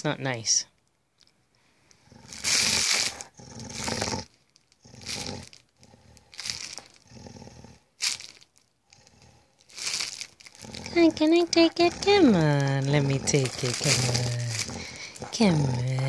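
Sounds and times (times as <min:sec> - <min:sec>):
dog growling: 0:02.0 - 0:08.3, 0:08.9 - 0:16.0
plastic bag crinkling: 0:02.2 - 0:07.4, 0:08.0 - 0:16.0.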